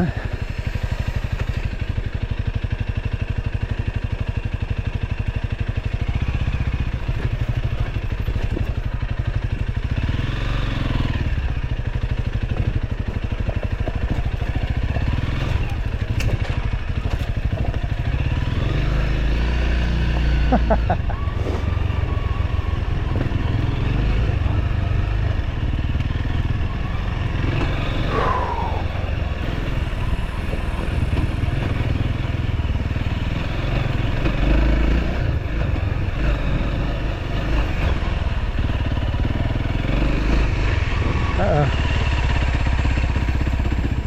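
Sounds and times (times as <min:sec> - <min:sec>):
motorcycle engine rumble: 0:00.0 - 0:44.0.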